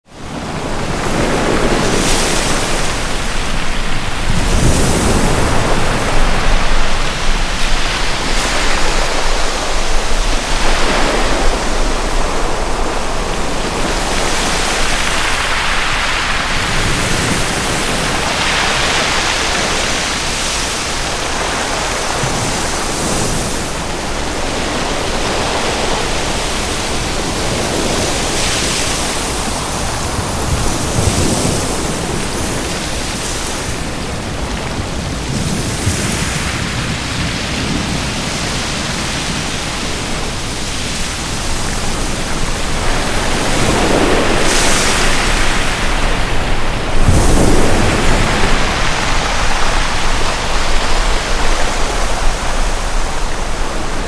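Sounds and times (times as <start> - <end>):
ocean waves breaking: 0.1 - 54.0.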